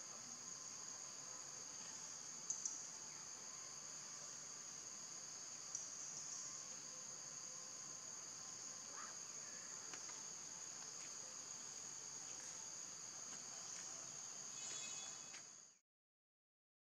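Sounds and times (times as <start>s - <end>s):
high-pitched insect drone: 0.0s - 15.7s.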